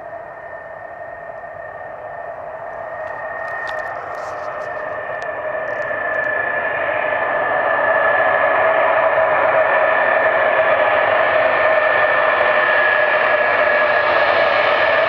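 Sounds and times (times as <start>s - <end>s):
aircraft engines roaring and whining: 0.0s - 15.0s.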